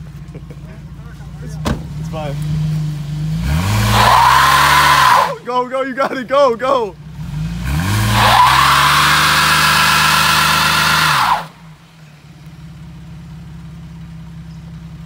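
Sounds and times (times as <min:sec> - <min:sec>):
car engine revving: 0:00.0 - 0:05.8, 0:06.9 - 0:15.0
car engine idling: 0:00.0 - 0:15.0
tyres spinning on asphalt: 0:00.0 - 0:15.0.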